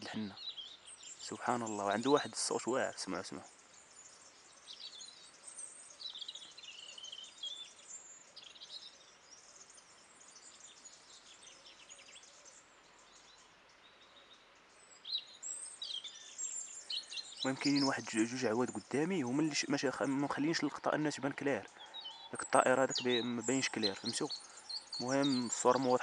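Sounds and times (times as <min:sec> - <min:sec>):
robin singing: 0:00.0 - 0:26.0.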